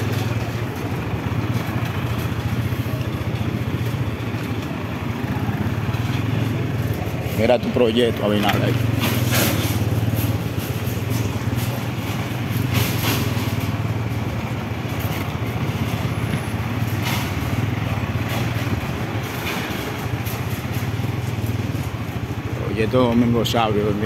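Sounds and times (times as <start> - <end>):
knocks and rattles: 0.0 - 23.3
motorcycle engine running: 0.0 - 24.0.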